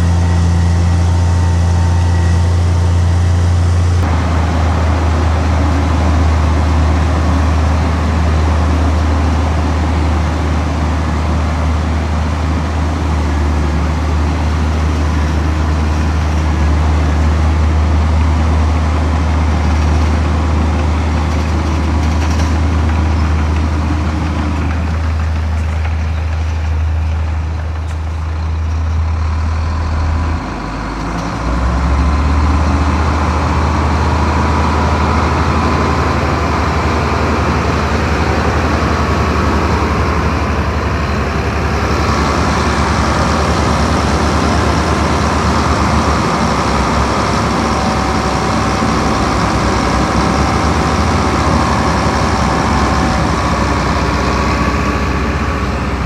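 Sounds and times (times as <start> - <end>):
steady whine: 0.0 - 19.5, 29.0 - 56.0
heavy machinery diesel engine: 0.0 - 56.0.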